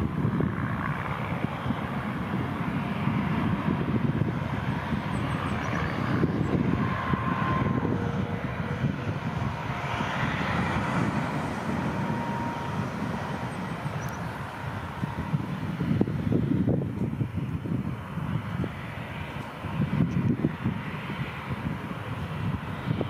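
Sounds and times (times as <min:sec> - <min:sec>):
turboprop engines droning: 0:00.0 - 0:23.0.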